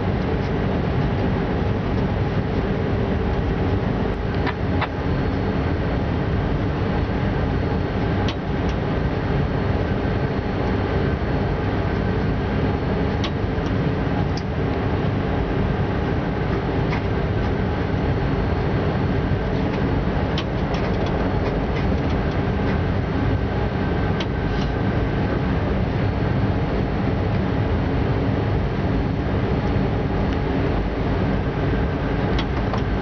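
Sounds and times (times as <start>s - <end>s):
train rumble and hum: 0.0s - 33.0s.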